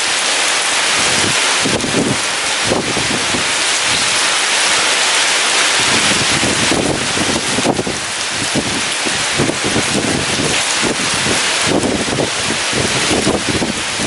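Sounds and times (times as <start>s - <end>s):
gusty storm wind rumbling: 0.0s - 14.0s
heavy rain pouring: 0.0s - 14.0s.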